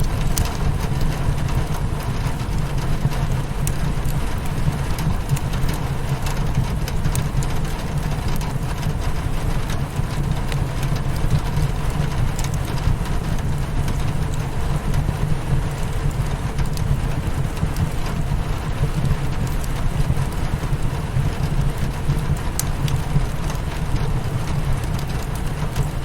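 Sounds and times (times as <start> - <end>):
fireplace crackling: 0.0 - 26.0
rain hitting a window: 0.0 - 26.0.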